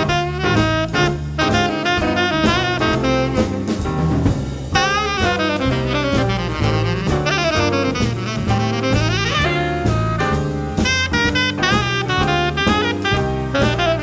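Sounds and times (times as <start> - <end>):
bass notes: 0.0 - 14.0
drum kit cymbal strokes: 0.0 - 14.0
jazz horn playing bending notes: 0.0 - 14.0.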